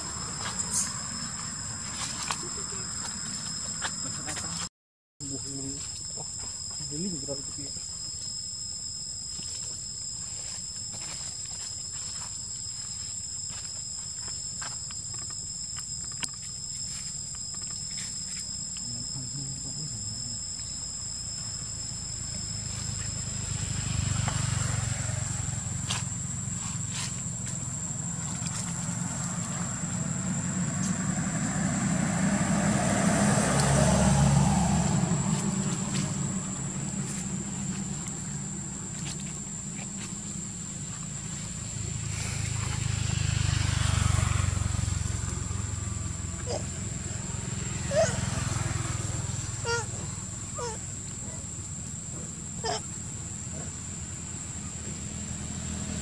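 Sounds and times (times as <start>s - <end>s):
passing traffic rumble: 0.0s - 5.9s, 14.2s - 56.0s
insects trilling: 0.0s - 56.0s.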